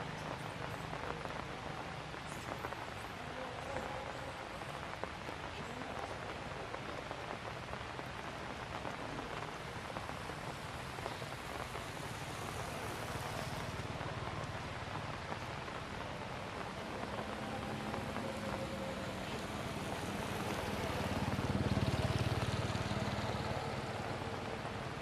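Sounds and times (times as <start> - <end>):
light rain falling: 0.0 - 25.0
single raindrops ticking: 4.7 - 24.9.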